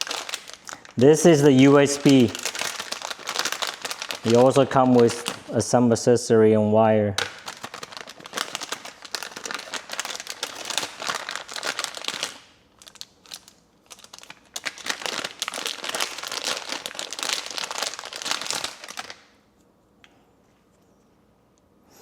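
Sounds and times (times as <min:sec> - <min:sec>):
plastic packaging crinkling: 0:00.0 - 0:05.6, 0:07.2 - 0:19.4.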